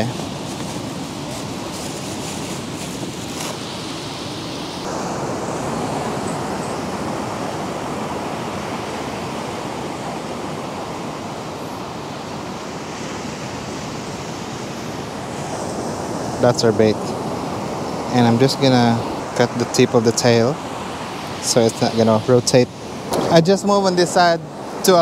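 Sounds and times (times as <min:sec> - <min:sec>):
waves breaking on sandy beach: 0:00.0 - 0:25.0.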